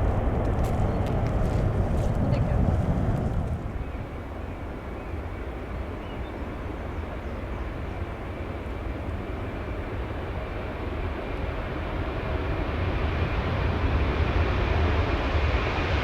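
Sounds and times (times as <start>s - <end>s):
jet engines during takeoff: 0.0s - 16.0s.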